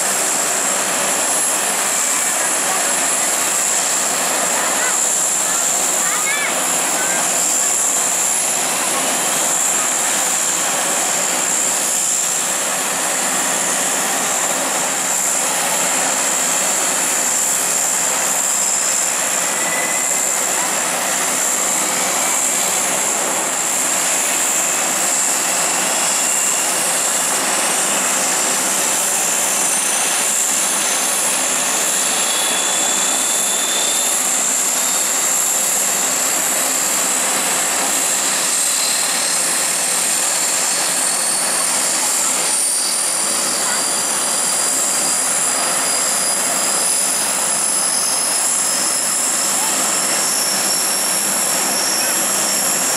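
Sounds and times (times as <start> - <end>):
high turbine whine: 0.0 - 52.9
turboprop engines running: 0.0 - 52.9.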